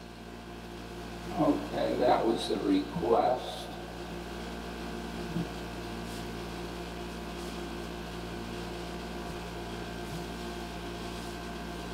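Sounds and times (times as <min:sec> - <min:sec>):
guitar amp hum and hiss: 0:00.0 - 0:11.9.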